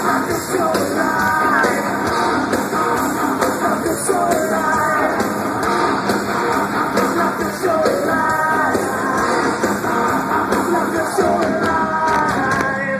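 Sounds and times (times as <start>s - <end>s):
live rock band with singer: 0.0s - 12.9s.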